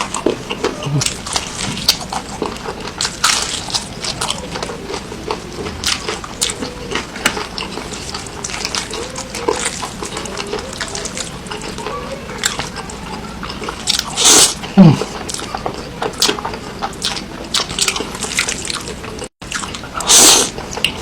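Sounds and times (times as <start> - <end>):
wet chewing and mouth smacking: 0.0 - 21.0.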